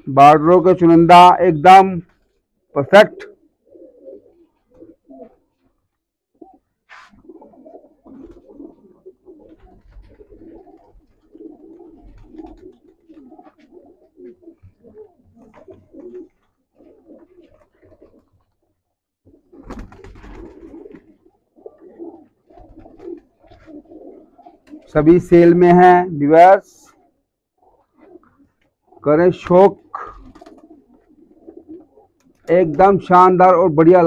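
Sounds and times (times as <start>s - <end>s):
pigeons cooing: 1.2s - 26.0s, 26.6s - 33.4s.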